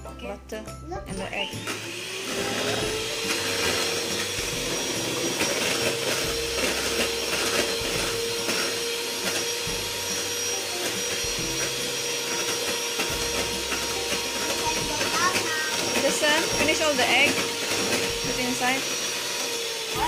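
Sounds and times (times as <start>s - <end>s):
electric hand mixer whirring: 1.1s - 20.0s.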